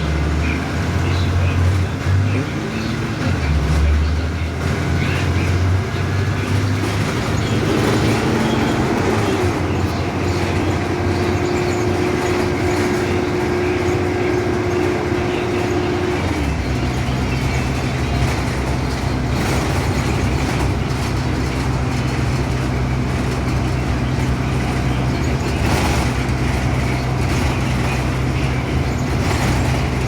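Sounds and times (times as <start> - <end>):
bus body rattle: 0.0 - 30.0
bus engine drone: 0.0 - 30.0
road noise: 0.0 - 30.0.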